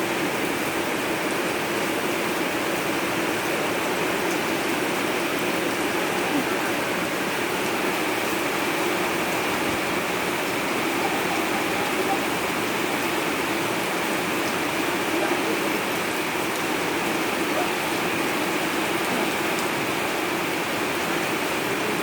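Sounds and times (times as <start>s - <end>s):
rain falling steadily: 0.0s - 22.0s.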